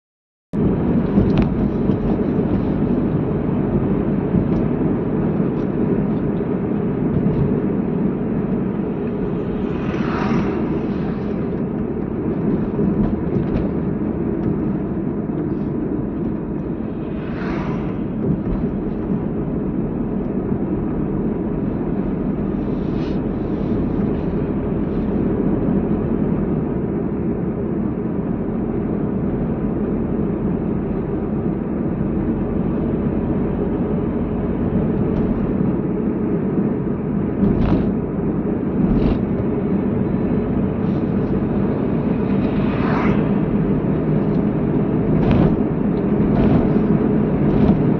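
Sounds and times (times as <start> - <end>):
car engine and tyre rumble: 0.6 - 47.9.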